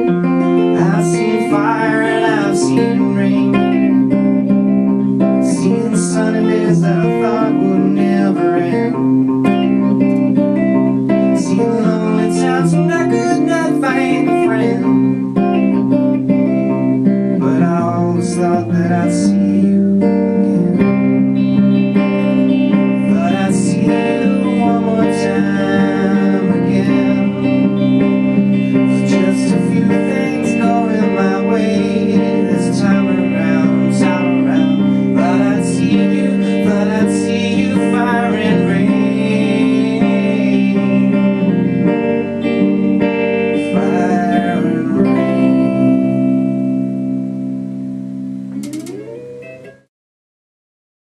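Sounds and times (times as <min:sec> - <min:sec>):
acoustic guitar playing: 0:00.0 - 0:49.9.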